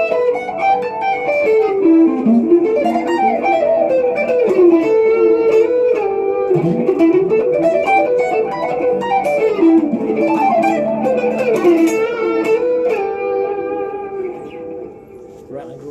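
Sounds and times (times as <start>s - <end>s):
electric guitar lead line: 0.0s - 15.5s.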